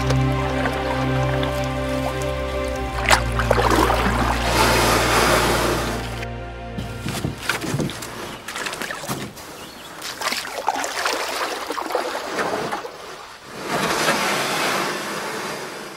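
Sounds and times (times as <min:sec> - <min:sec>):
water rushing: 0:00.0 - 0:14.9
water splashing and lapping: 0:00.0 - 0:15.9.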